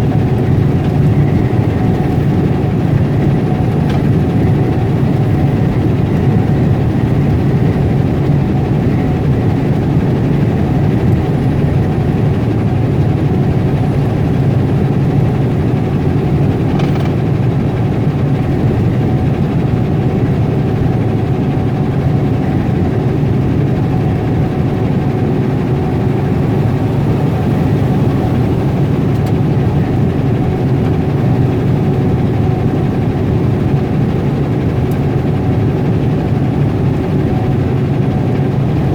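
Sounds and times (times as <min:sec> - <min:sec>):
truck engine low hum: 0:00.0 - 0:21.4, 0:22.4 - 0:38.9.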